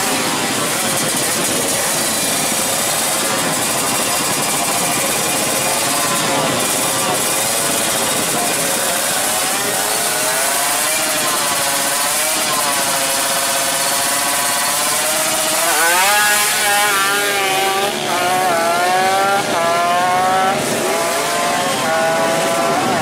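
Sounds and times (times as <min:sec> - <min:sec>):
drag bike engine revving: 0:00.0 - 0:23.0.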